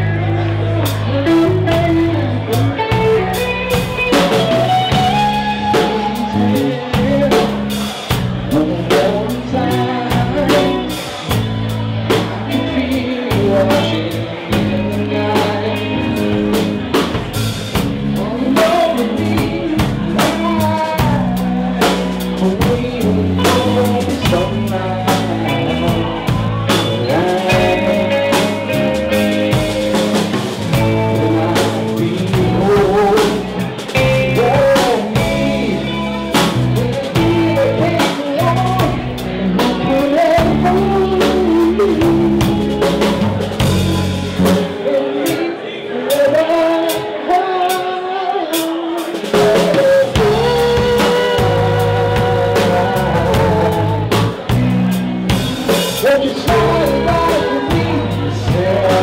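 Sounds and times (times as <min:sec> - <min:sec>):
drum kit beat: 0:00.0 - 0:48.0, 0:48.6 - 0:59.0
bass guitar: 0:00.0 - 0:59.0
electric guitars: 0:00.0 - 0:59.0.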